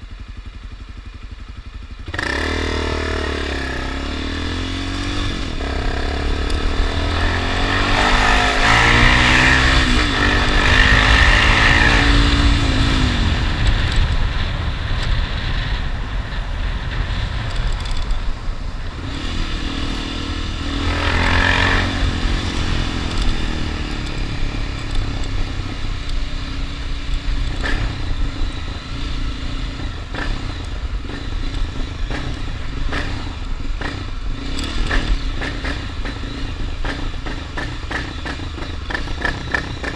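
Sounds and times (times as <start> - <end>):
motorcycle engine revving: 0.0 - 39.9
wind rumble on microphone: 3.4 - 39.9.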